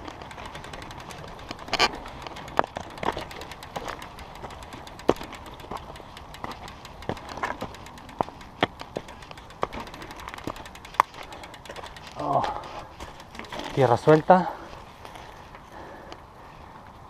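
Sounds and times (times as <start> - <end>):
steady rushing noise: 0.0 - 15.5
bike rattling: 0.0 - 17.0
stones clicking under bike tyres: 0.0 - 17.0.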